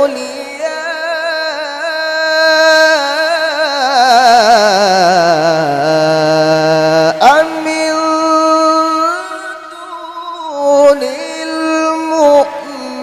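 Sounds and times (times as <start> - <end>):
melodic recitation by high voice: 0.0 - 13.0.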